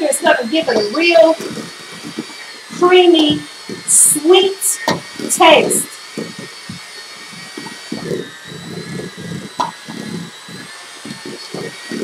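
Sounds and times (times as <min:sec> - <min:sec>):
beaters churning thick filling: 0:00.0 - 0:12.0
electric hand mixer whine: 0:00.0 - 0:12.0.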